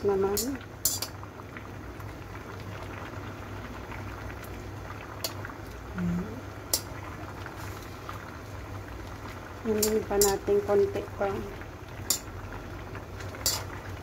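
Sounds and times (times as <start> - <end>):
water bubbling in a wok: 0.0 - 14.0.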